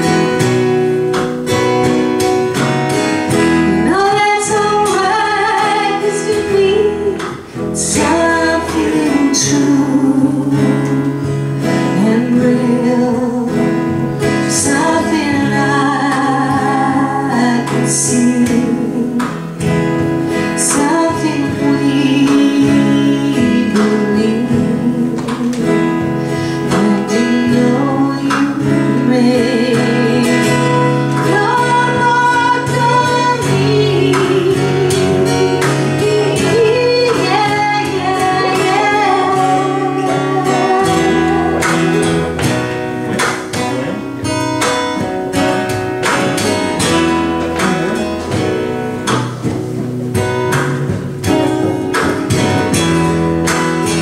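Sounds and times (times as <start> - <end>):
acoustic guitars strumming: 0.0 - 54.0
person singing: 3.6 - 19.6, 20.3 - 49.6.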